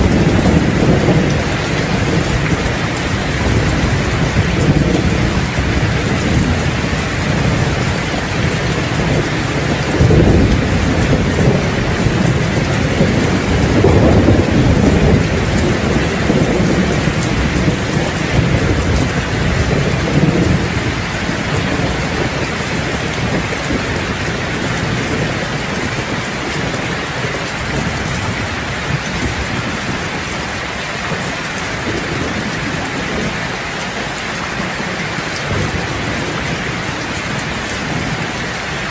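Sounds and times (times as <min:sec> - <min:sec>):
heavy rain on a roof: 0:00.0 - 0:38.9
rolling thunder: 0:00.0 - 0:38.9.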